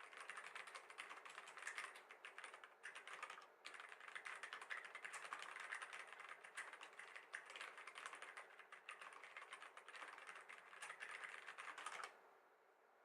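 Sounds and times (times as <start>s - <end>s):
fast typing on mechanical keyboard: 0.0s - 12.2s.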